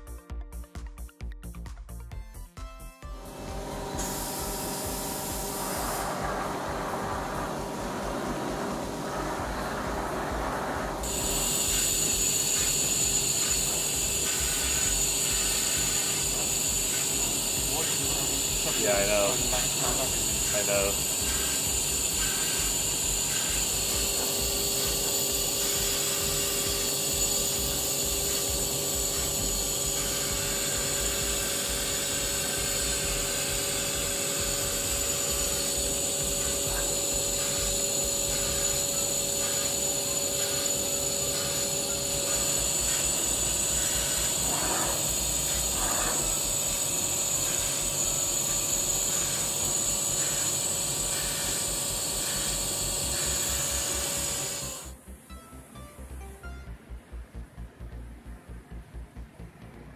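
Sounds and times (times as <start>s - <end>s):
machinery high whine: 3.1s - 55.7s
machinery low hums: 3.1s - 59.9s.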